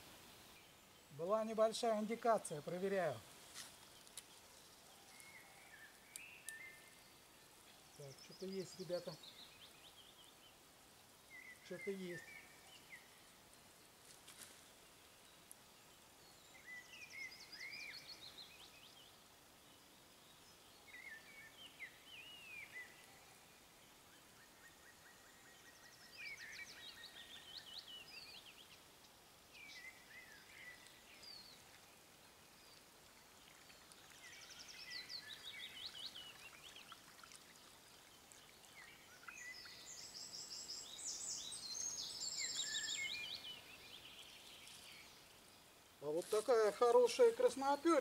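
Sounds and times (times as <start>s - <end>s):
faint background hiss: 0.0s - 48.0s
songbirds chirping: 0.0s - 48.0s.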